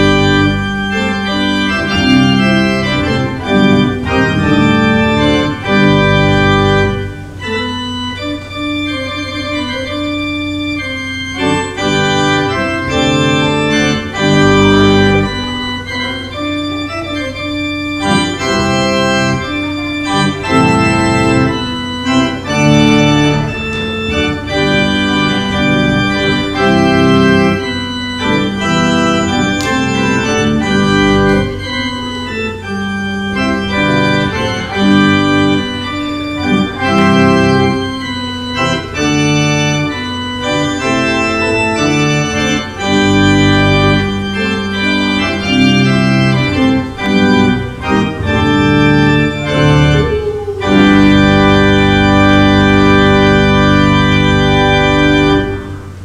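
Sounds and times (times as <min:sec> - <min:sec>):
church organ playing chords: 0:00.0 - 0:56.0.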